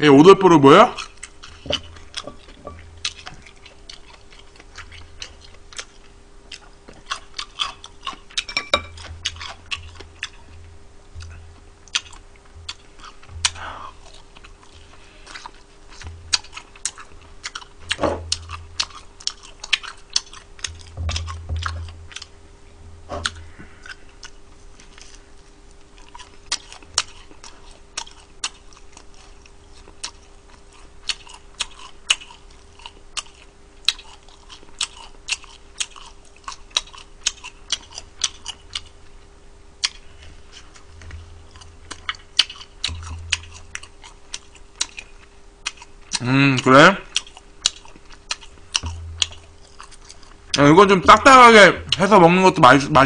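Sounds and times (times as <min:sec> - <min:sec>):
chewing and crunching: 0:00.4 - 0:22.4, 0:23.2 - 0:52.2.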